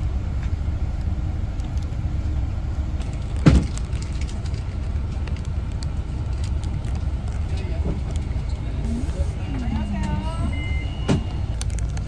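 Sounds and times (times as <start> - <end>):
bus rumbling from inside: 0.0 - 12.0.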